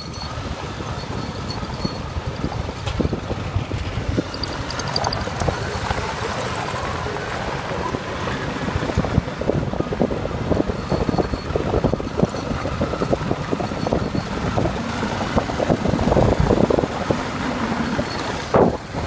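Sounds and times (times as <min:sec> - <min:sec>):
motorcycle engine running: 0:00.0 - 0:07.6, 0:08.4 - 0:19.0
wind buffeting microphone: 0:00.0 - 0:19.0.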